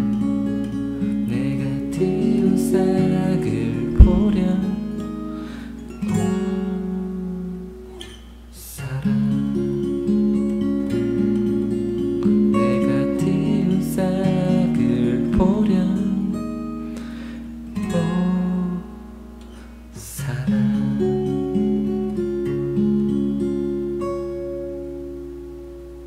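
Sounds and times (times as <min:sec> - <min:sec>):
fingerstyle acoustic guitar: 0:00.0 - 0:26.0.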